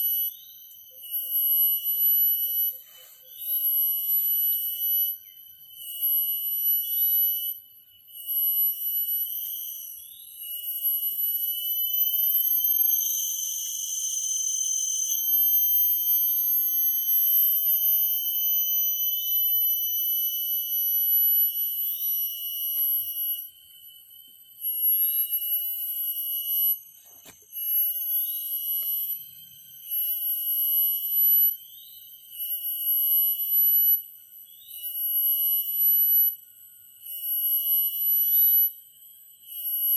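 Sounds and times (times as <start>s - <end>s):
cicadas buzzing: 0.0s - 7.5s, 8.5s - 36.4s.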